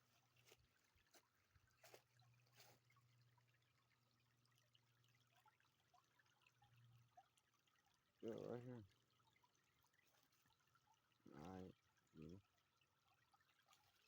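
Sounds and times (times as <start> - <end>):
stream trickling: 0.0 - 14.0.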